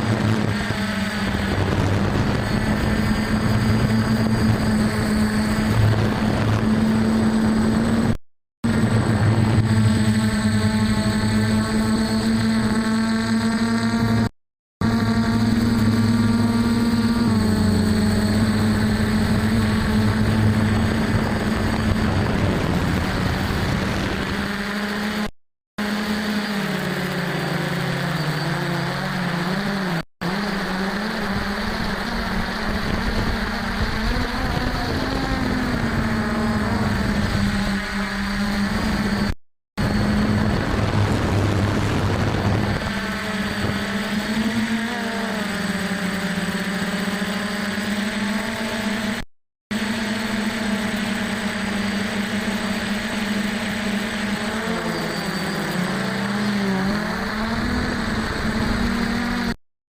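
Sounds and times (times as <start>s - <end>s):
quadcopter motors humming: 0.0s - 59.6s.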